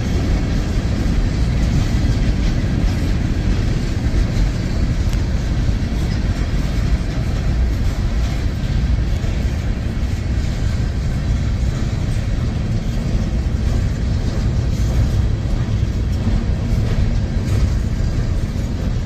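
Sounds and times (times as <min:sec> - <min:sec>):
freight cars rolling on rails: 0:00.0 - 0:19.0.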